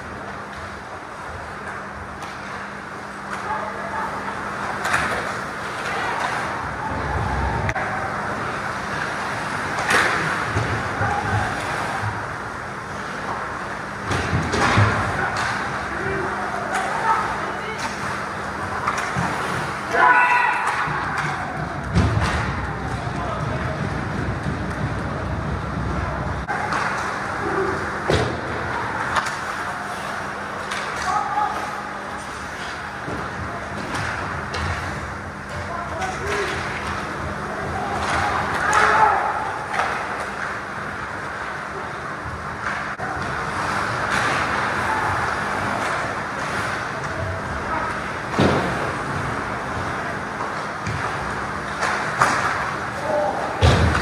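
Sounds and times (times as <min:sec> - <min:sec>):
distant rink noise: 0:00.0 - 0:54.0
echoing arena noise: 0:00.0 - 0:54.0.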